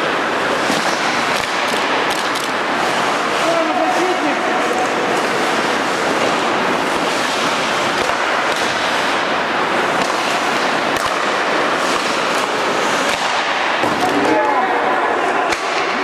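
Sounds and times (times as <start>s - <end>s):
hockey sticks and puck clacking: 0.0s - 16.0s
skates scraping ice: 0.0s - 16.0s.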